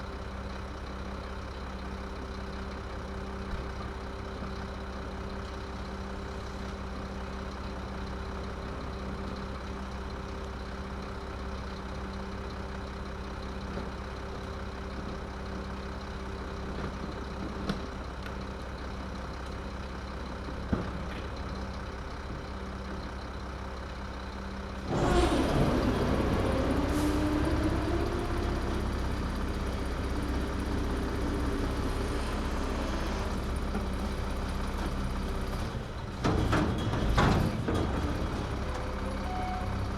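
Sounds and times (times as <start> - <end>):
garbage truck engine idling: 0.0 - 39.9.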